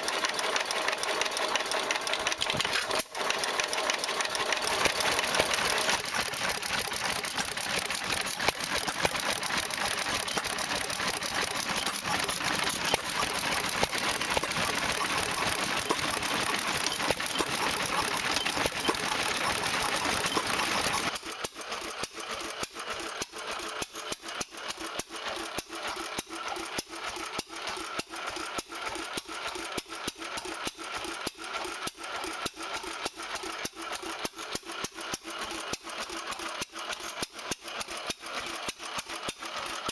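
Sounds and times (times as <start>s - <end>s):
engine beating with slow ticks: 0.0s - 39.9s
fast mechanical engine clatter: 0.0s - 39.9s.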